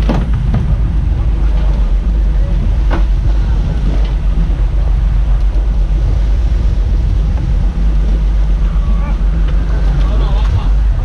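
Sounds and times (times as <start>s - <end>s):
boat engine running: 0.0s - 11.0s
rushing water: 0.0s - 11.0s
wind buffeting microphone: 0.0s - 11.0s.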